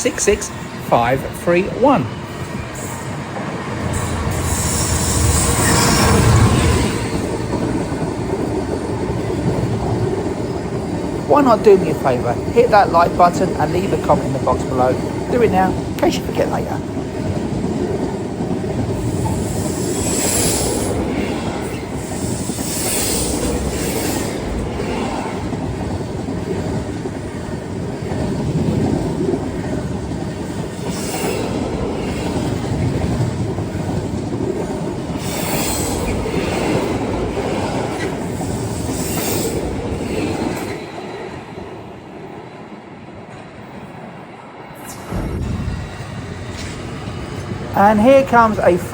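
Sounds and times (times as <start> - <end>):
freight wagons rumbling over rails: 0.0 - 41.7, 44.8 - 48.9.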